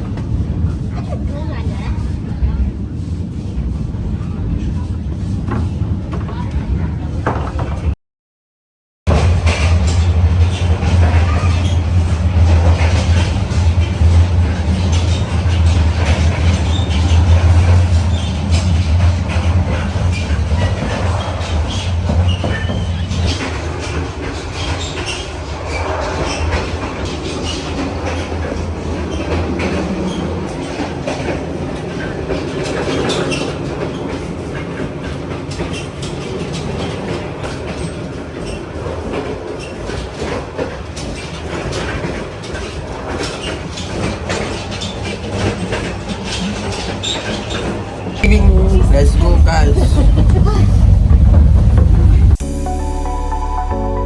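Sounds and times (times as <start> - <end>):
train rumbling: 0.0 - 8.0, 9.1 - 53.9
wheels clacking over rails: 9.1 - 52.4.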